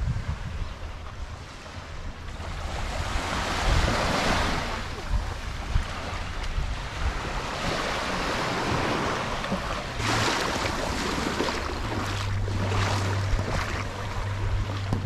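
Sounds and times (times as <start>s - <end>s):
boat engine humming: 0.0s - 15.0s
wind on microphone: 0.0s - 15.0s
surf washing onto beach: 2.6s - 15.0s.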